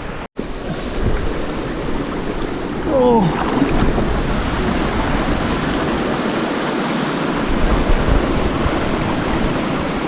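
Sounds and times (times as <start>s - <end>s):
waterfall rushing: 0.5s - 10.0s.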